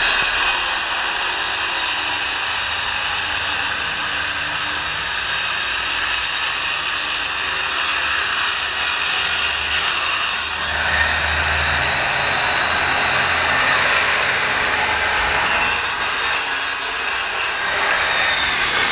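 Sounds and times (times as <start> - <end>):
angle grinder cutting concrete: 0.0 - 18.9.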